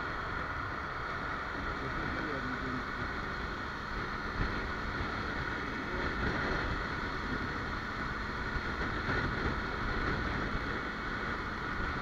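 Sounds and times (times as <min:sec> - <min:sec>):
motorcycle engine cruising: 0:00.0 - 0:12.0
wind noise on microphone: 0:00.0 - 0:12.0.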